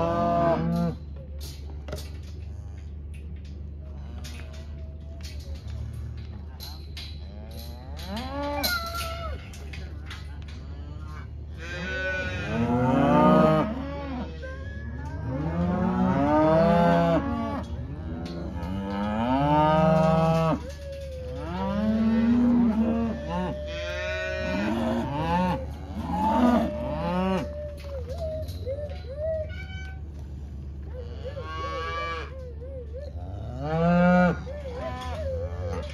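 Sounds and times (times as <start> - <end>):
cows and calves bawling: 0.0 - 35.9.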